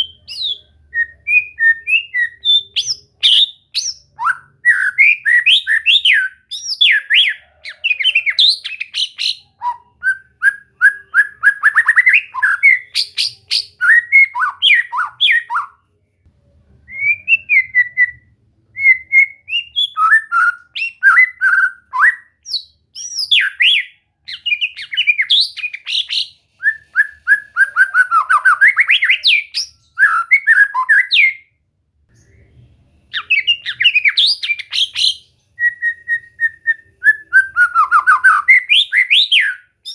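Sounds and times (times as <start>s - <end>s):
bird singing whistles and trills: 0.0s - 15.8s, 16.9s - 31.5s, 33.1s - 39.9s.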